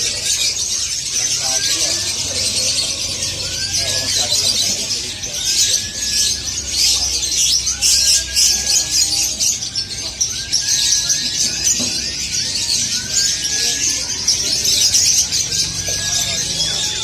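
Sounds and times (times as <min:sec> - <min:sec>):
canaries chirping and twittering: 0:00.0 - 0:17.0
rising bird whistles: 0:01.3 - 0:17.0.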